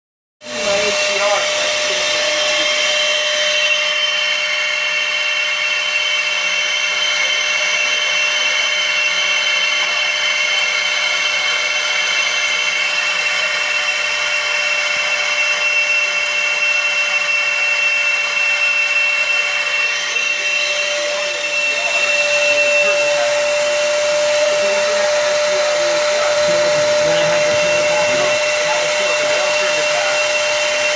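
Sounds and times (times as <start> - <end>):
high whining tones: 0.4 - 30.9
laser engraver fan whir: 0.4 - 30.9.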